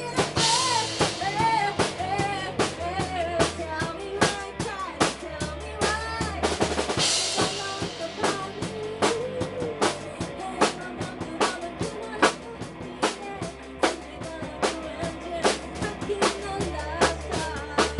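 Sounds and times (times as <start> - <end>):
drum kit: 0.0 - 17.9
rock music: 0.0 - 17.9.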